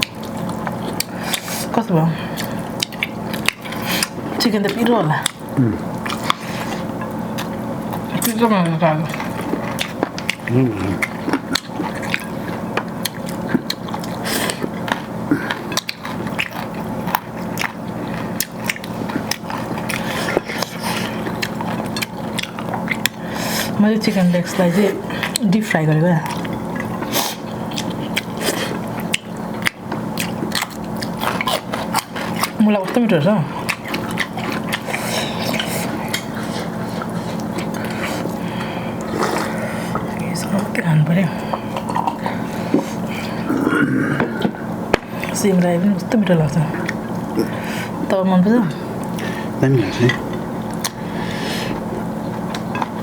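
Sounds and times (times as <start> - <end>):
biting and chewing: 0.0 - 23.8, 24.5 - 40.7, 41.4 - 45.4, 50.0 - 53.0.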